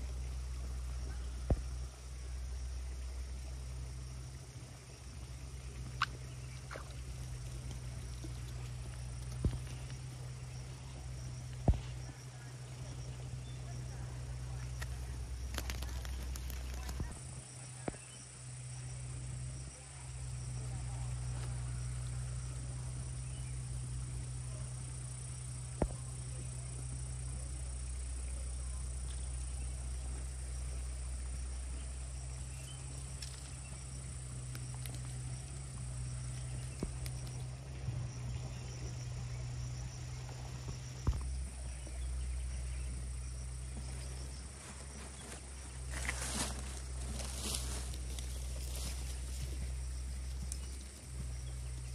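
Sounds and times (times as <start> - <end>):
high-pitched insect chorus: 0.0 - 51.9
low steady hum: 0.0 - 51.9.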